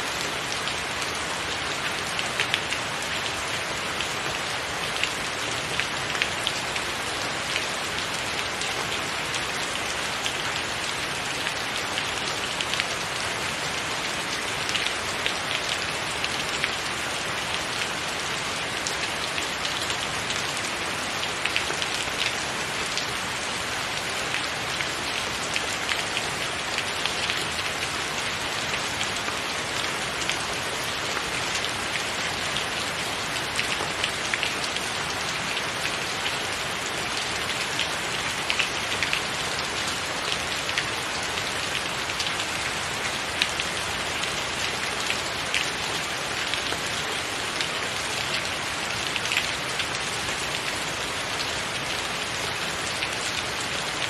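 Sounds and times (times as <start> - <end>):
rain hissing on a tiled roof: 0.0 - 54.0.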